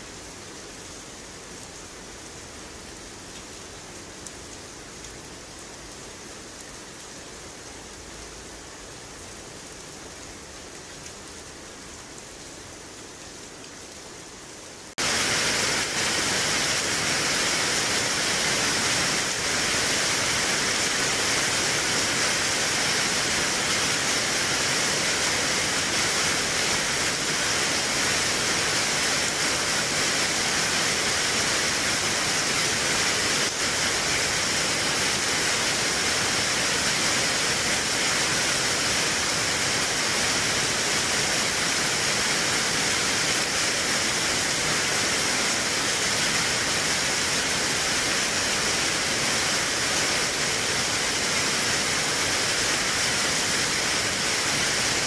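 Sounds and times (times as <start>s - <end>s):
rain falling through leaves: 0.0s - 55.0s.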